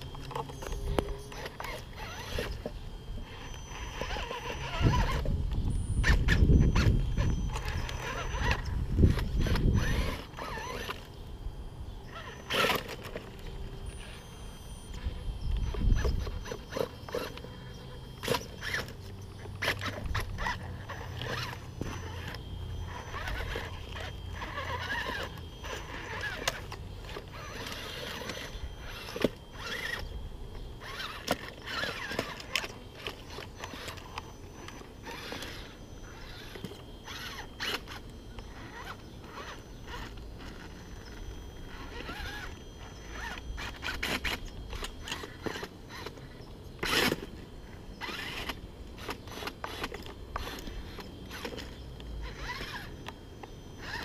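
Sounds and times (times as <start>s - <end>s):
toy car motor whining: 0.0s - 54.0s.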